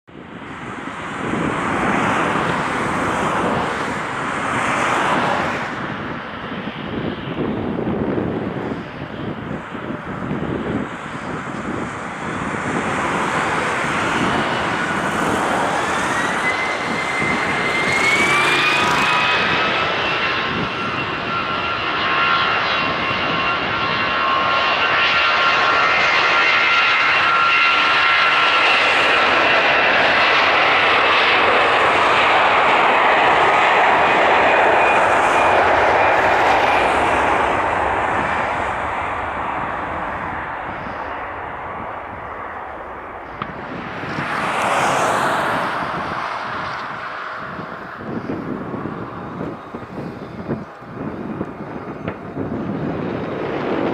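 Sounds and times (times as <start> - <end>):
jet engines whining and roaring: 0.0 - 53.9.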